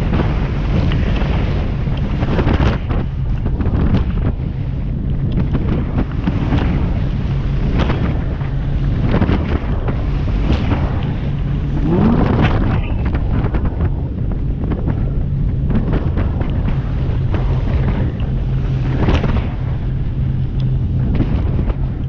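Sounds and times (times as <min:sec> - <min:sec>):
boat engine drone: 0:00.0 - 0:22.0
water splashing against hull: 0:00.0 - 0:22.0
wind buffeting microphone: 0:00.0 - 0:22.0.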